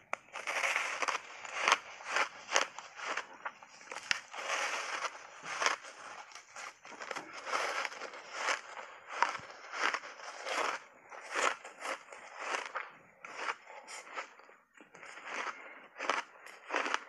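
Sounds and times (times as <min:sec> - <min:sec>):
ice being chewed: 0:00.0 - 0:17.0
ice cracking between teeth: 0:00.1 - 0:17.0.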